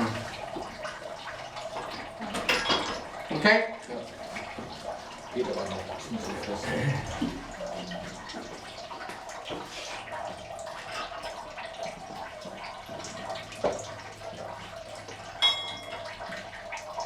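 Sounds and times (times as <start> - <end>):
liquid trickling: 0.0 - 17.0.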